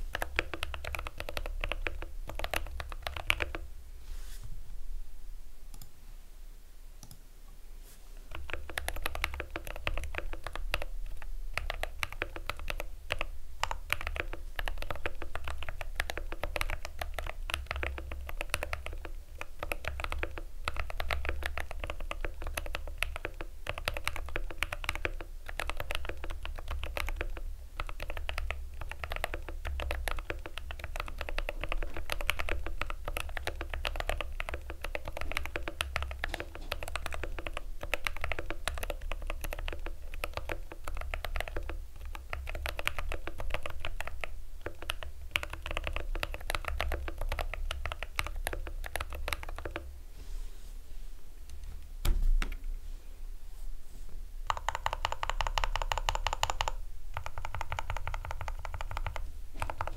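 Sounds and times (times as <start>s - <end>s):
fast typing on mechanical keyboard: 0.1s - 3.6s, 8.3s - 49.9s, 54.5s - 59.9s.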